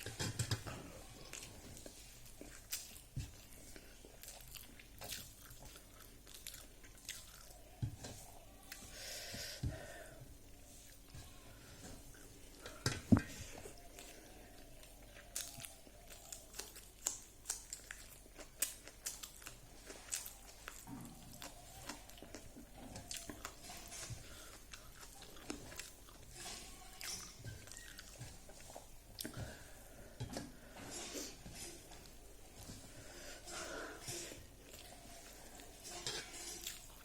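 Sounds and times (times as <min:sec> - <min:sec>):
chewing and crunching: 0:00.0 - 0:09.1, 0:10.5 - 0:37.0.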